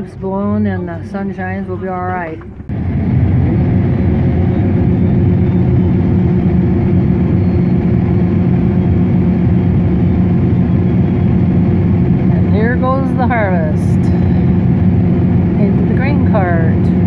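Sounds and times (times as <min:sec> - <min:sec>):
combine harvester diesel drone: 0:00.0 - 0:17.0.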